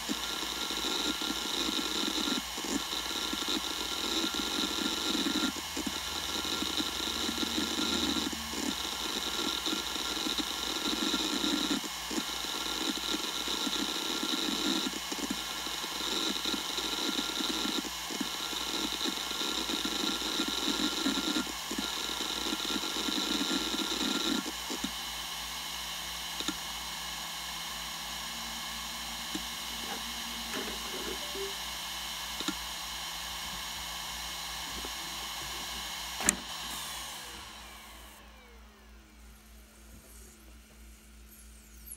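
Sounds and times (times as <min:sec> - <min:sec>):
hard drive seek chatter: 0:00.0 - 0:41.9
hard drive spindle whine: 0:00.0 - 0:41.9.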